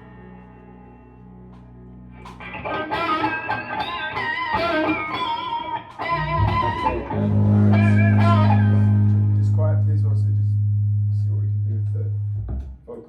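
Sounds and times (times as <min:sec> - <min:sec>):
electric guitar through an amp: 0:00.0 - 0:12.8.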